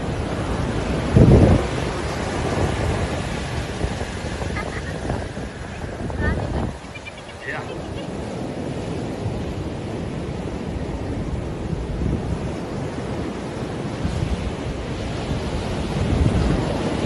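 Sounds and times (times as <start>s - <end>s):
surf washing: 0.0s - 17.0s
wind buffeting microphone: 0.0s - 17.0s.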